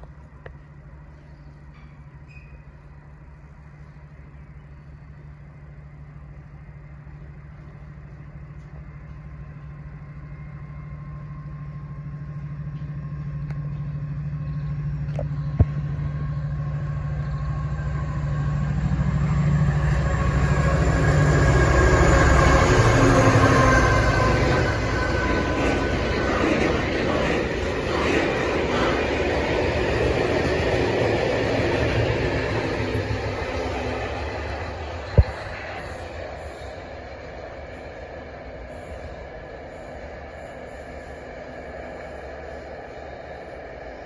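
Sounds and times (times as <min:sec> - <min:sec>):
diesel locomotive engine hum: 0:00.0 - 0:44.0
train rumble and wheel noise: 0:00.0 - 0:44.0.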